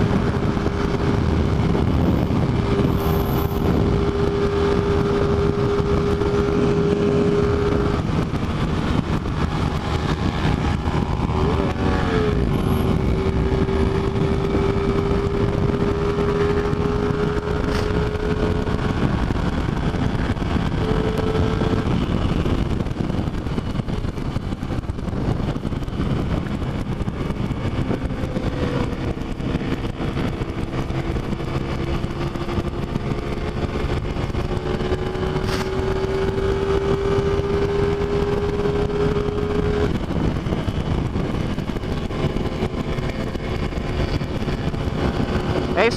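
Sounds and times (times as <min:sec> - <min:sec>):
motorcycle engine cruising: 0:00.0 - 0:45.9
wind noise: 0:00.0 - 0:45.9.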